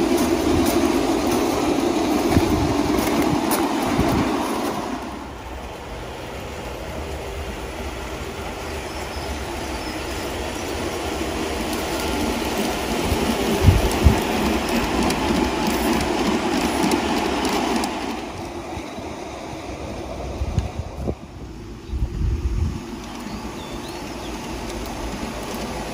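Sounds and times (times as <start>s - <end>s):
model train wheels clicking: 0.0s - 21.2s, 22.7s - 25.9s.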